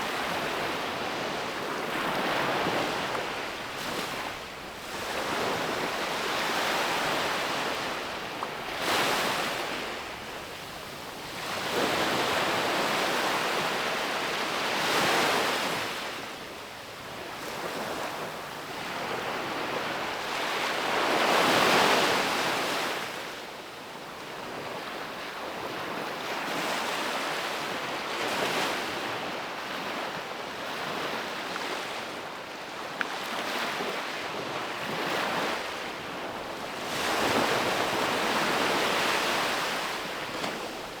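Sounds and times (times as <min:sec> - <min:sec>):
ocean waves breaking on beach: 0:00.0 - 0:16.4, 0:24.3 - 0:41.0.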